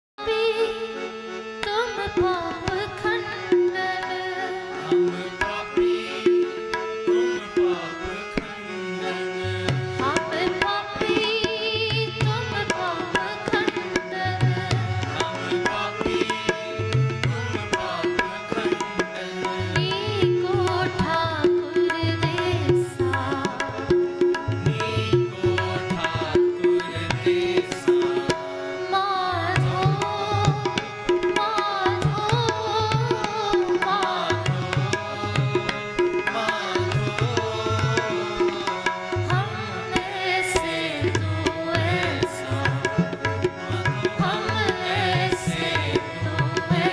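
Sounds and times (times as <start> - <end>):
tabla: 0.2 - 46.9.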